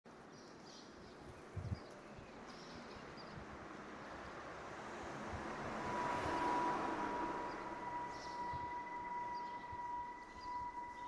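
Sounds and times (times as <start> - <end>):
steady outdoor noise: 0.1 - 11.0.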